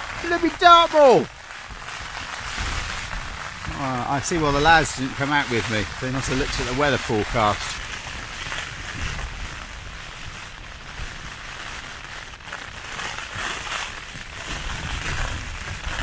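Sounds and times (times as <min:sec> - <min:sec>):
gusting wind buffeting tent: 0:00.0 - 0:16.0
heavy rain on tent fabric: 0:00.0 - 0:16.0.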